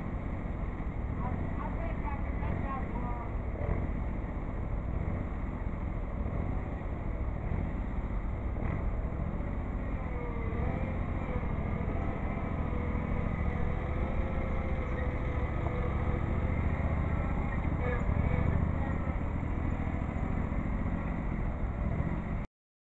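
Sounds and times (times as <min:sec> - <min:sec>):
garden tractor engine running: 0:00.0 - 0:22.4.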